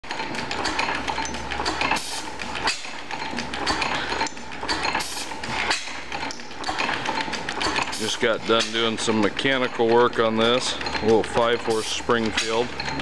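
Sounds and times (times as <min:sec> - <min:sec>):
gas engine clattering: 0:00.0 - 0:13.0.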